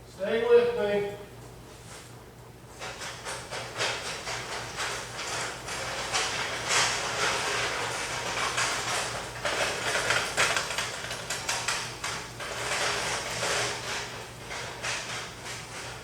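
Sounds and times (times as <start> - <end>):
steady low hum: 0.0 - 16.0
objects rustling and scraping: 1.4 - 16.0.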